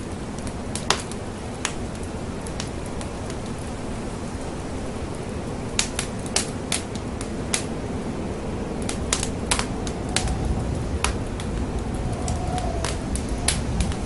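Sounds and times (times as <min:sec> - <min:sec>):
fire crackling and popping: 0:00.0 - 0:14.0
wood fire rumbling: 0:00.0 - 0:14.0.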